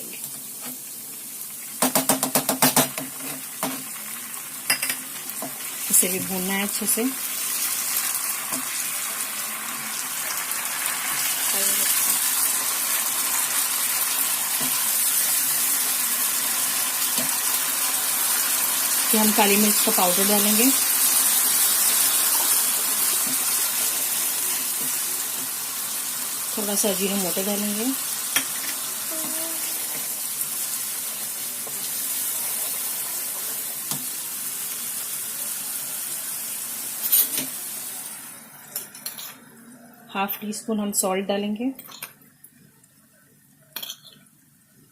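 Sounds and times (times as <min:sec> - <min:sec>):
sauce sizzling in hot oil: 0:00.0 - 0:02.0, 0:02.6 - 0:38.7.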